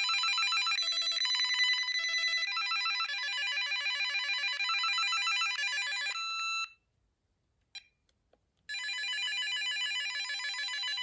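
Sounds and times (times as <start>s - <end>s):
cordless phone ringing: 0.0s - 6.7s, 8.7s - 11.0s.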